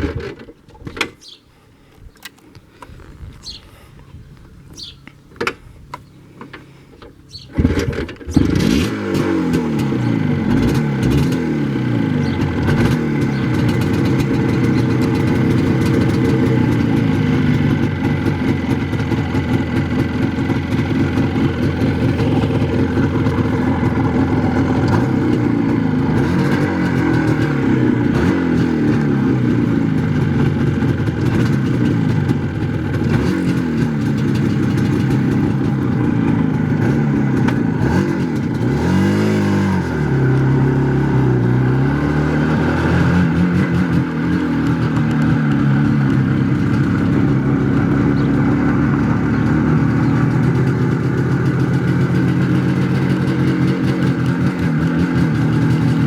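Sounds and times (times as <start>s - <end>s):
motorcycle engine revving: 7.3s - 56.0s.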